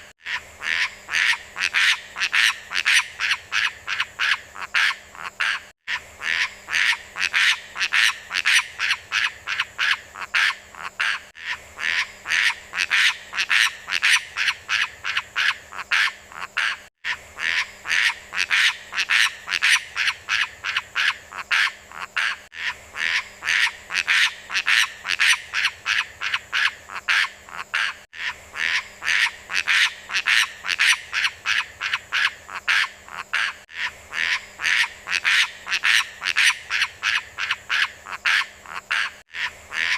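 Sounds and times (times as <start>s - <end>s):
bird croaking calls: 0.0s - 39.9s.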